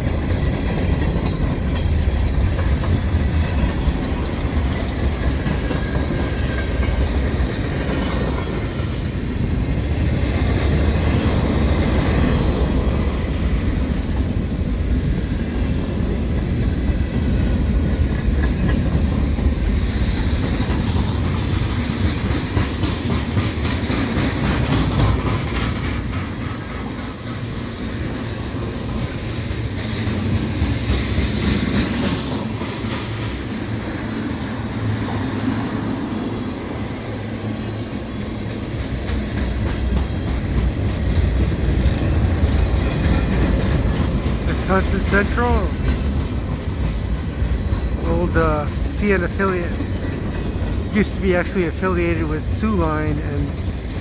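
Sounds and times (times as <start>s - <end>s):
wheels clacking over rail joints: 0.0s - 51.2s, 51.8s - 54.0s
freight train wheels rumbling on rail: 0.0s - 54.0s.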